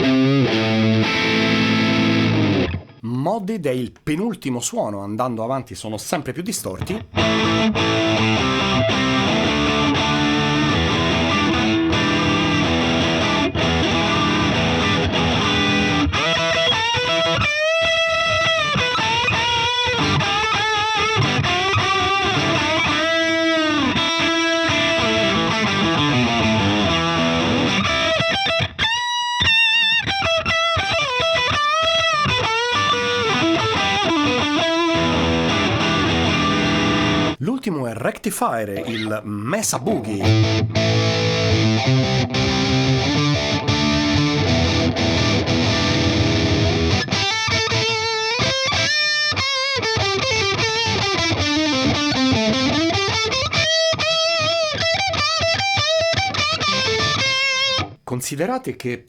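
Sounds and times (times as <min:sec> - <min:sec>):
distorted electric guitar: 0:00.0 - 0:03.0, 0:06.9 - 0:37.4, 0:40.2 - 0:58.0.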